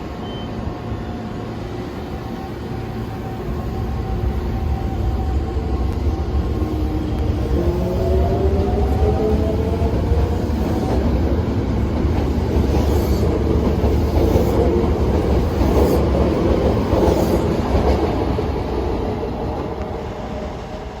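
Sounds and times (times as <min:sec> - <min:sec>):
train rumbling over rails: 0:00.0 - 0:21.0.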